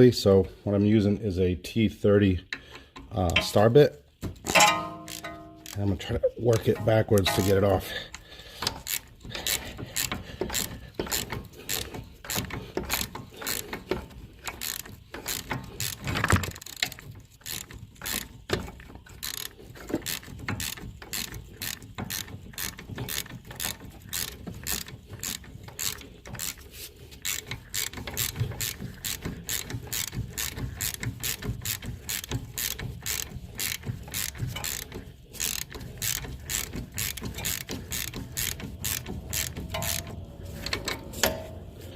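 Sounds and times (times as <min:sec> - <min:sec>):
ratchet wrench clicking: 0:04.4 - 0:05.9, 0:06.5 - 0:41.7.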